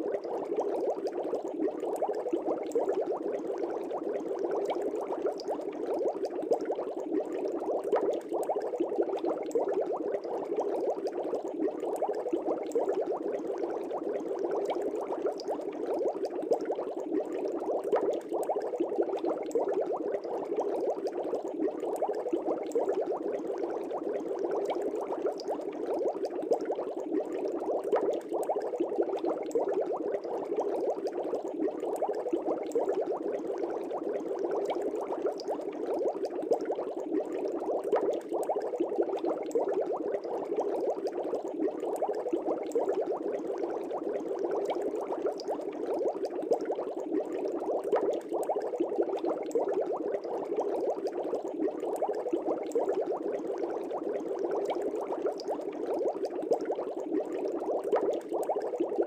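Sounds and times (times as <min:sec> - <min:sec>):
aquarium air bubbling: 0:00.0 - 0:59.0.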